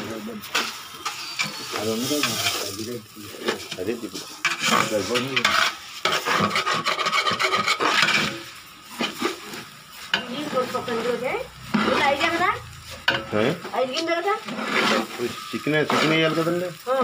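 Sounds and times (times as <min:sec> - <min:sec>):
metal spoon scraping pot: 0:00.6 - 0:02.7, 0:03.4 - 0:16.6.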